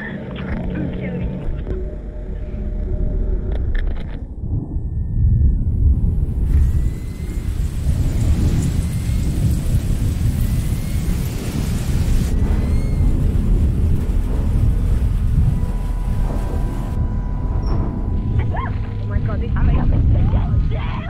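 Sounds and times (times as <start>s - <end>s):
low rumble with hiss: 0.0s - 21.0s.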